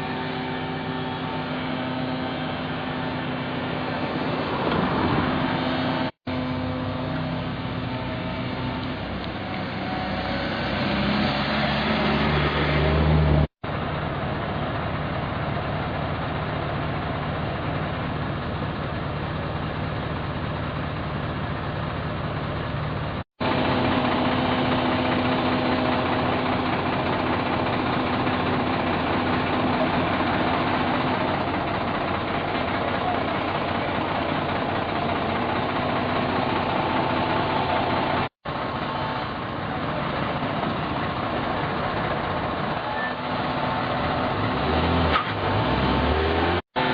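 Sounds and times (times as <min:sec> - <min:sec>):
heavy machinery engines running: 0:00.0 - 0:46.9.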